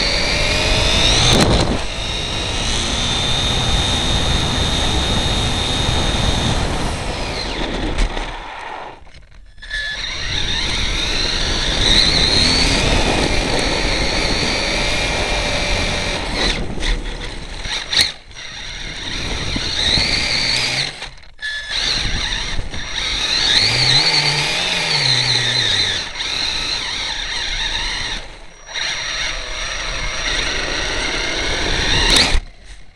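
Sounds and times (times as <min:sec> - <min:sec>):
electric toy truck motor whine: 0:00.0 - 0:32.9.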